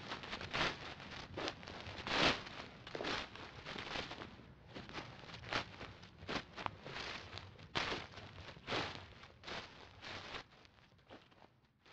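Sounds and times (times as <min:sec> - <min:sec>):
footsteps swishing through dry grass: 0:00.0 - 0:11.9.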